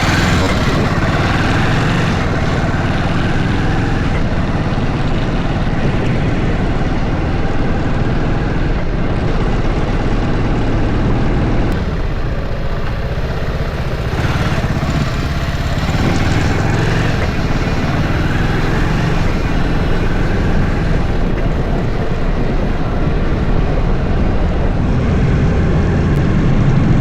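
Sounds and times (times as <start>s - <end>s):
tyre noise on road: 0.0s - 27.0s
vehicle engine running: 0.0s - 27.0s
wind noise: 0.0s - 27.0s.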